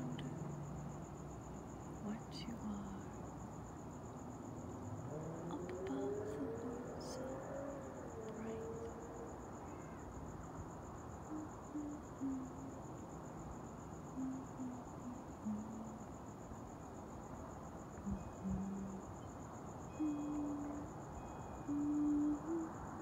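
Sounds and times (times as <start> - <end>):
night insects trilling: 0.0 - 23.0
soft background hiss: 0.0 - 23.0.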